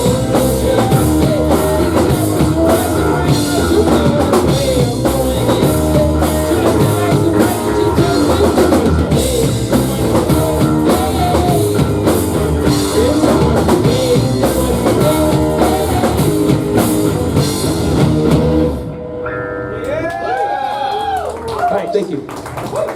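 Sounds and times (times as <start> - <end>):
live rock band playing: 0.0 - 20.8.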